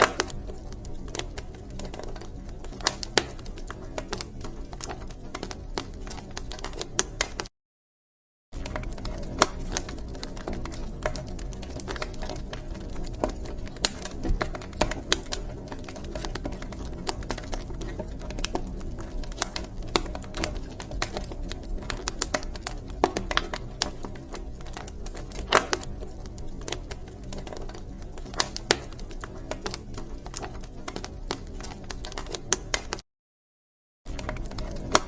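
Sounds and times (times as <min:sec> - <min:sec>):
low rush of flames: 0:00.0 - 0:07.4, 0:08.6 - 0:32.9, 0:34.1 - 0:35.0
wood fire crackling: 0:00.0 - 0:07.5, 0:08.6 - 0:33.0, 0:34.1 - 0:35.0.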